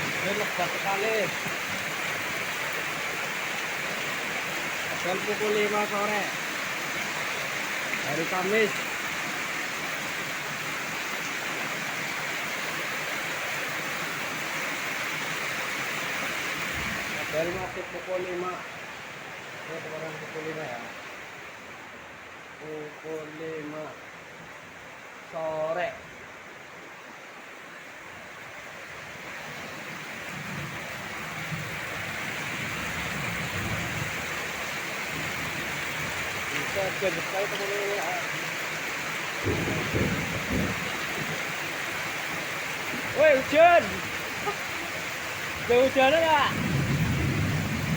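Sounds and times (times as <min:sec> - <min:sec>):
heavy rain downpour: 0:00.0 - 0:47.9.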